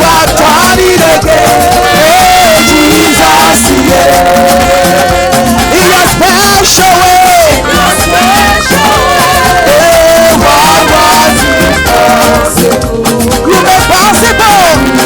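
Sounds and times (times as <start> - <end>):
band with drum and bass beat: 0.0 - 15.0
person singing long notes: 0.0 - 15.0.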